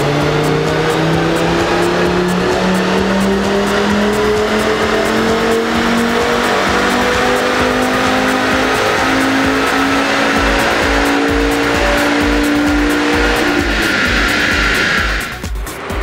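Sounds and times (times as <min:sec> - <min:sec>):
car engine running hard: 0:00.0 - 0:16.0.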